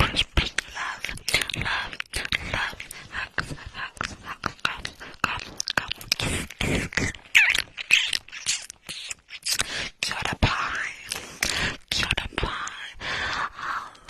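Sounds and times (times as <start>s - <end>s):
scratching on microphone: 0.0s - 12.9s
wet mouth clicks: 0.0s - 12.9s
person whispering: 0.0s - 14.0s.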